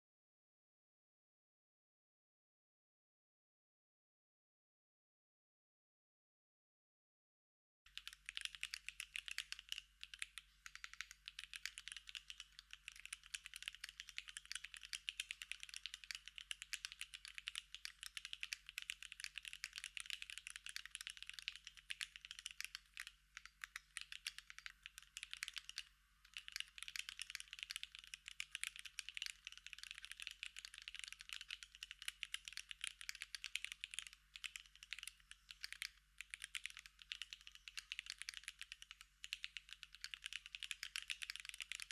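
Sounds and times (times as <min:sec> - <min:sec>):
typing on mechanical keyboard: 0:07.9 - 0:41.9.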